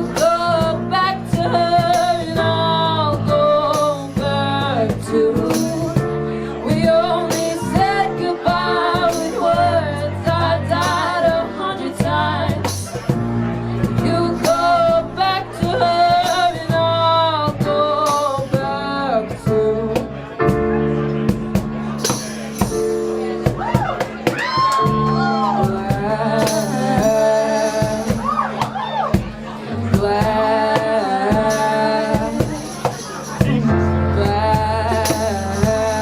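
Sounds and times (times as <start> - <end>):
person singing: 0.0 - 13.1, 13.9 - 20.3, 24.8 - 29.1, 29.7 - 36.0
drum hits: 0.0 - 18.8, 19.4 - 36.0
bass: 0.0 - 36.0.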